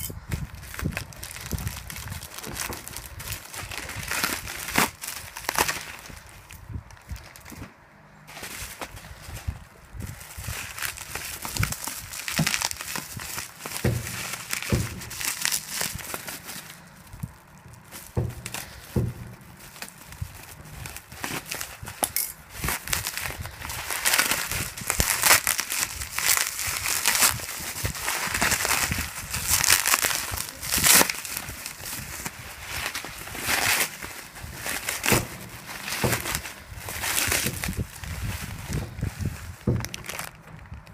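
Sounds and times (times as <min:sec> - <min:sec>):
crinkly packaging rustling: 0:00.0 - 0:40.9.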